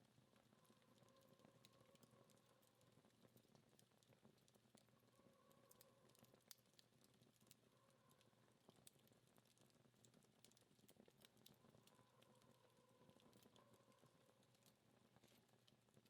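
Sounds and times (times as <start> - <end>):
wood fire crackling: 0.3 - 16.0.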